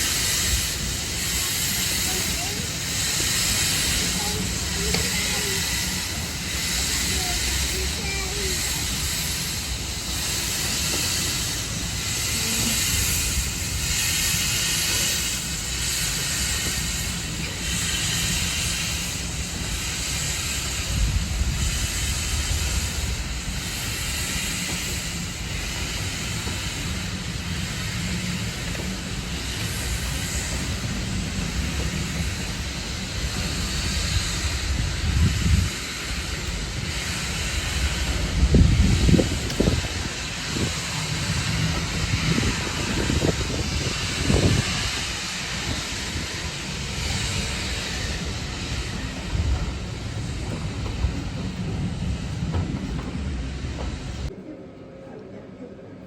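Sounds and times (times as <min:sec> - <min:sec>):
steam locomotive hissing: 0:00.0 - 0:54.5.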